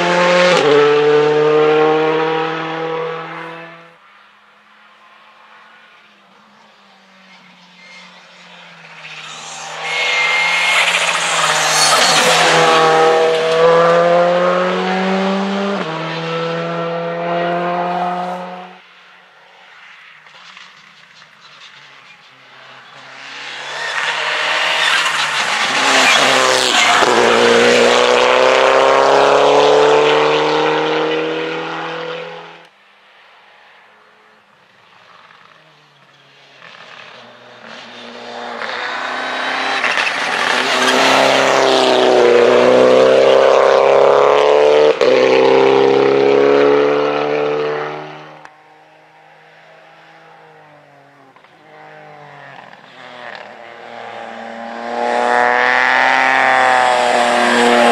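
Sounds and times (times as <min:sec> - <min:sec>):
rally cars accelerating past: 0:00.0 - 0:04.0, 0:05.4 - 0:32.7, 0:33.4 - 0:57.9.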